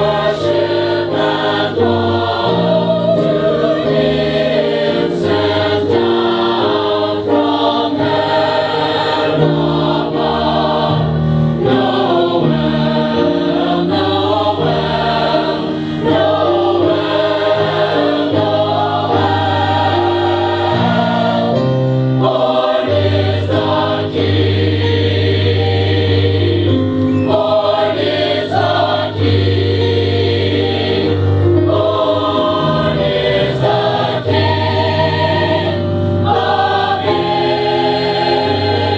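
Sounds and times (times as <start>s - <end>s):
choir singing held chords: 0.0s - 38.9s.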